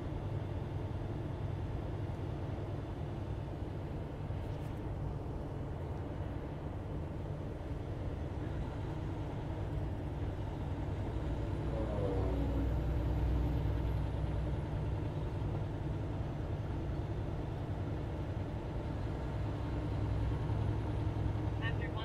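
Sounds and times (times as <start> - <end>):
truck diesel engine drone: 0.0 - 22.0.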